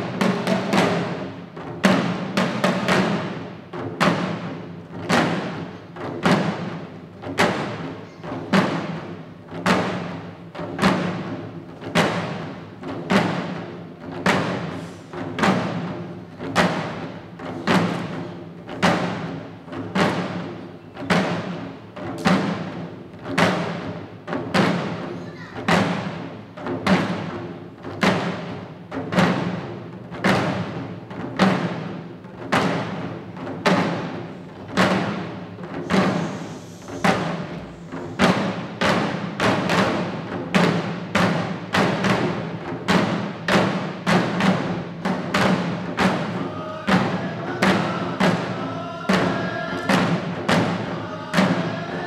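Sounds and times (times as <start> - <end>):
drums beaten in slow rhythm: 0.0 - 52.0.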